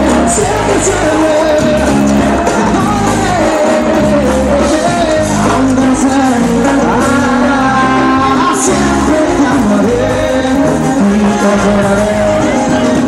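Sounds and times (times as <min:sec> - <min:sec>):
live cumbia band playing: 0:00.0 - 0:13.0
man singing: 0:00.0 - 0:13.0
steady bass notes: 0:00.0 - 0:13.0.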